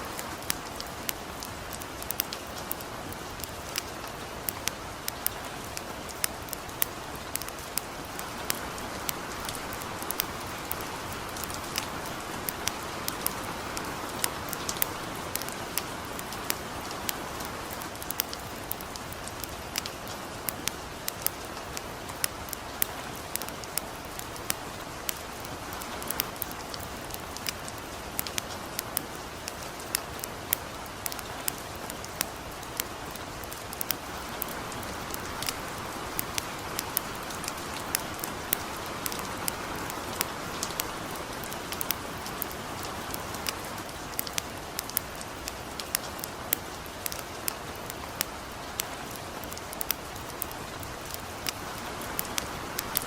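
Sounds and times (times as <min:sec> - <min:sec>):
campfire crackling: 0:00.0 - 0:53.0
light rain falling: 0:00.0 - 0:53.0.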